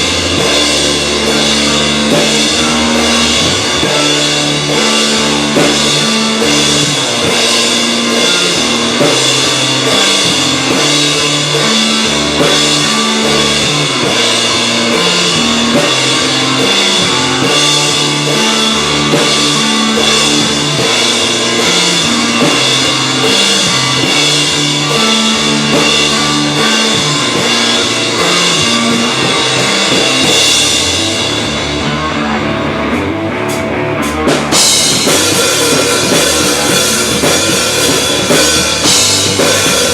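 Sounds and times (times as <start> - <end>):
bass line: 0.0 - 39.9
drum kit with cymbals: 0.0 - 39.9
electric guitar: 0.0 - 39.9.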